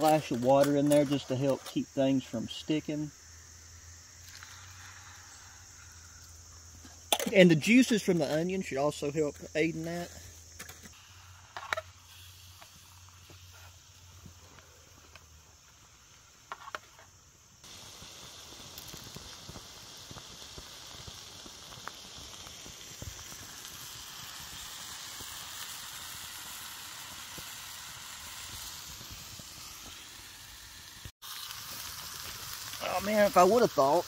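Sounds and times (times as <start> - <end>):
meat and onions sizzling in pan: 0.0 - 8.7, 9.4 - 34.0.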